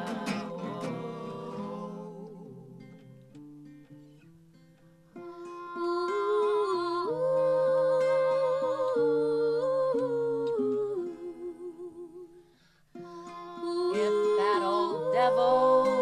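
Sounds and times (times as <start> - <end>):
women singing close harmony: 0.0 - 3.0, 5.3 - 12.4, 13.0 - 16.0
acoustic guitar: 0.0 - 16.0.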